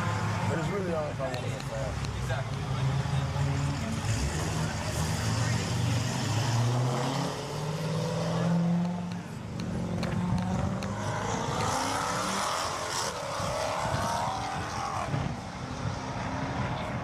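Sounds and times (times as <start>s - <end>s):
performance car engine revving: 0.0s - 17.0s.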